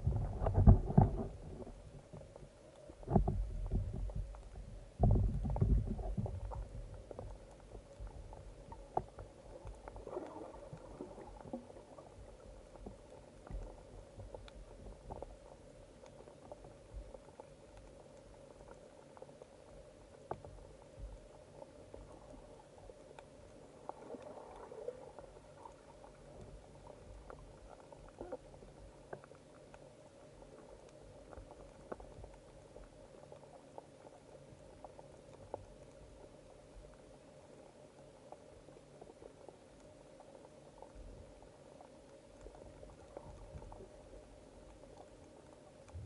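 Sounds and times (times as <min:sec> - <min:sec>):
steady low hum: 0:00.0 - 0:46.0
underwater crackling clicks: 0:00.0 - 0:46.0.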